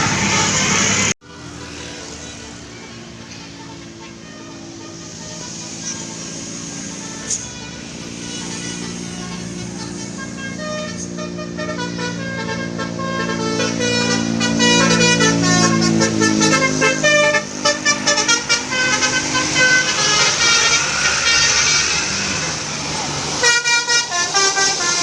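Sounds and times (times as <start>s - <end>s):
bus air horn melody: 0.0s - 25.0s
bus engine: 0.0s - 25.0s.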